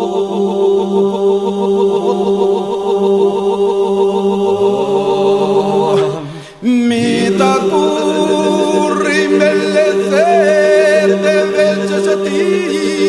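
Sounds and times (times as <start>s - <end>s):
held vocal drone: 0.0s - 13.0s
voices singing a cappella: 0.0s - 13.0s.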